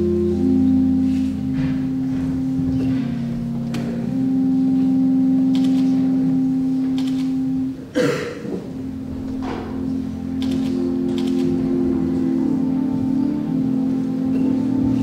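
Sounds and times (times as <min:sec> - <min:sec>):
organ sustained chords: 0:00.0 - 0:15.0.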